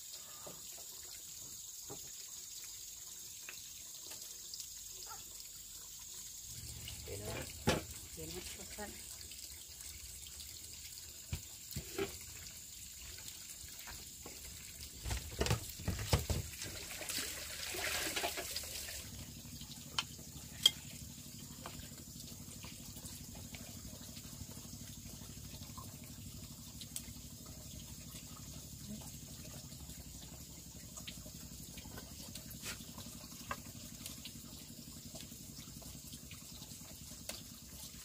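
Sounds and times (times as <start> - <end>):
water trickling and splashing: 0.0 - 38.0.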